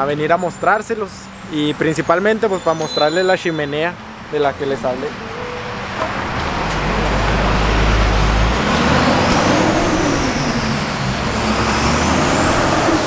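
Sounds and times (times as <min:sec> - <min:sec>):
traffic engine rumble: 0:00.0 - 0:13.0
high whine: 0:00.7 - 0:13.0.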